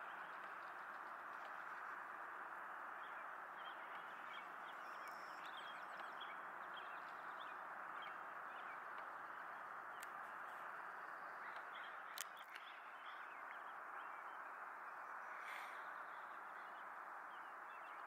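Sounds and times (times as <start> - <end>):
faint bird chirps: 0.0 - 18.0
steady background hiss: 0.0 - 18.0.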